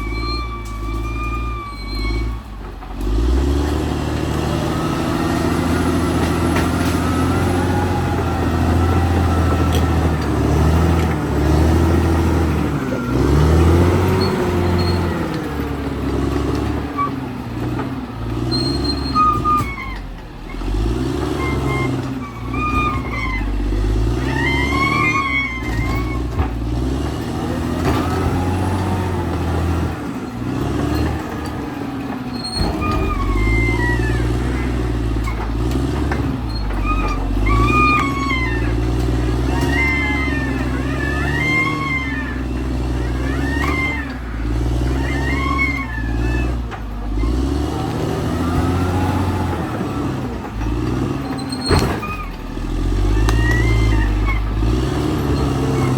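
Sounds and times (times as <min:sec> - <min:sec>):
bulldozer diesel engine under load: 0:00.0 - 0:55.9
steel tracks squealing: 0:00.0 - 0:55.9.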